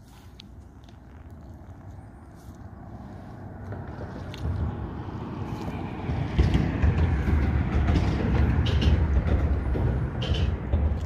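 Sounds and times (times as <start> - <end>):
heavy traffic rumble: 0.0 - 11.0.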